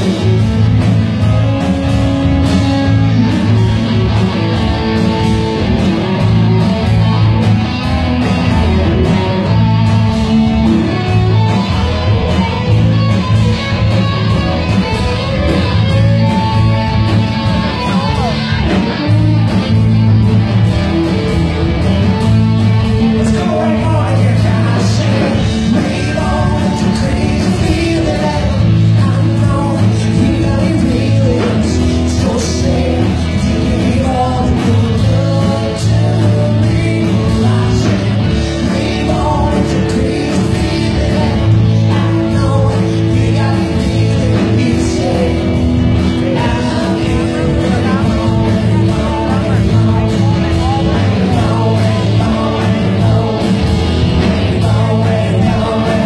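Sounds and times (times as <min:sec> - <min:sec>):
man singing: 0:00.0 - 0:05.6, 0:07.9 - 0:19.9, 0:22.6 - 0:56.0
bass guitar: 0:00.0 - 0:56.0
drum kit beat: 0:00.0 - 0:56.0
electric guitars: 0:00.0 - 0:56.0.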